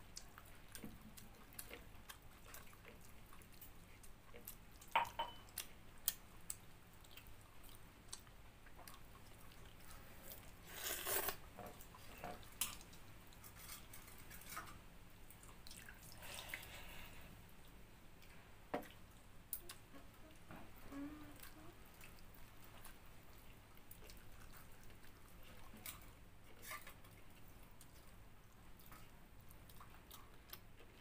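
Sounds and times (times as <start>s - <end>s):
person chewing food: 0.1s - 14.6s, 15.3s - 17.0s, 18.2s - 31.0s.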